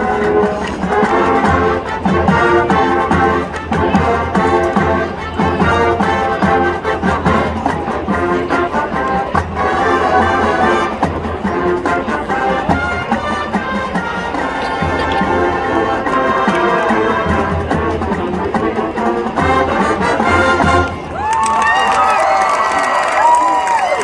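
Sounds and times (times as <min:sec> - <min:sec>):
marching band brass music: 0:00.0 - 0:24.0.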